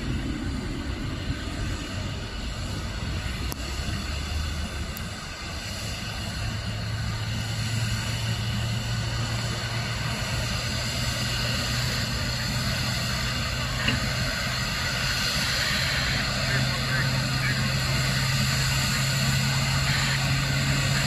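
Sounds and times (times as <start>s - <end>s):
distant jet engines running: 0.0s - 21.0s.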